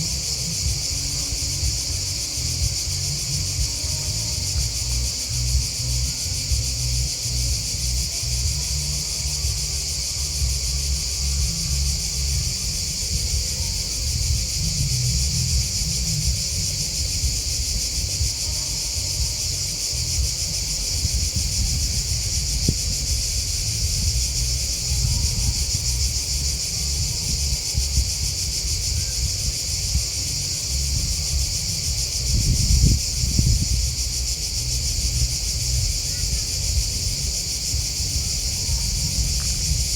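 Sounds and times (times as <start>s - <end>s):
grasshoppers and crickets chirping: 0.0s - 39.9s.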